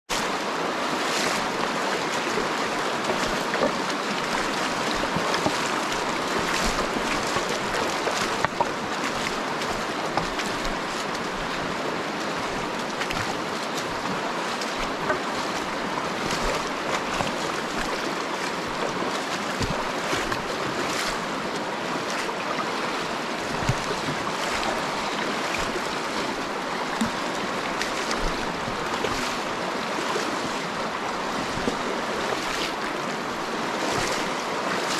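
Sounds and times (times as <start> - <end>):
river rushing over rocks: 0.1 - 34.9
splashes from wading: 0.2 - 34.9.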